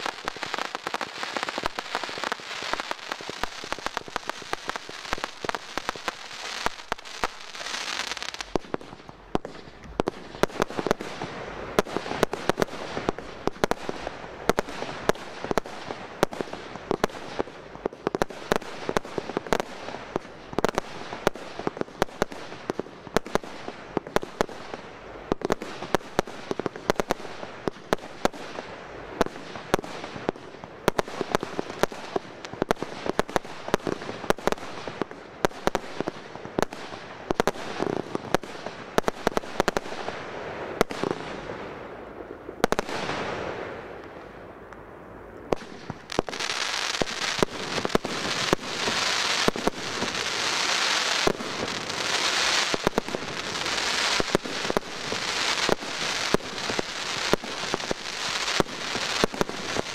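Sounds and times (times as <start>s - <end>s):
crackling fireworks: 0.0s - 59.9s.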